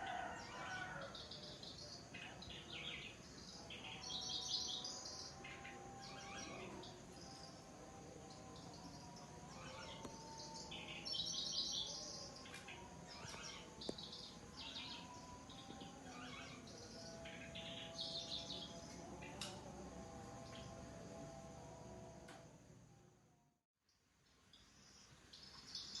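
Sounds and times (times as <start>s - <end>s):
warbler chirping trills: 0.2s - 20.8s, 24.5s - 26.0s.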